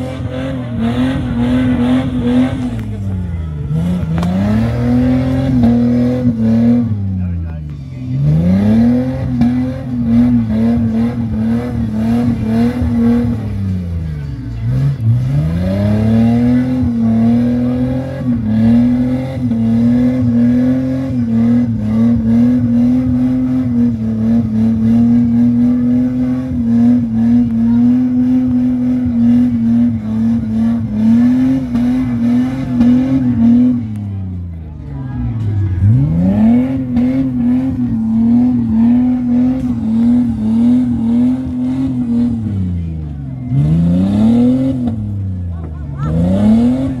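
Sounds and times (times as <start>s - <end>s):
engine revving hard: 0.0s - 3.0s, 8.1s - 34.1s, 35.8s - 47.0s.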